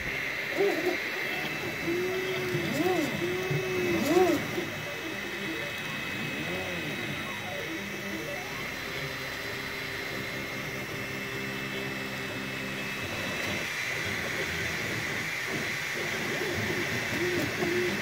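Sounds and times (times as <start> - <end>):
constant high whine: 0.0 - 18.0
stepper motors whining: 0.0 - 18.0.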